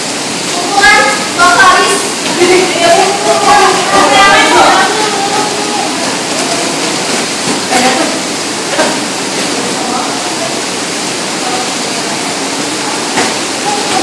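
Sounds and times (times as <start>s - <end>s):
loud steady hiss: 0.0s - 14.0s
faint murmuring voices: 0.4s - 14.0s.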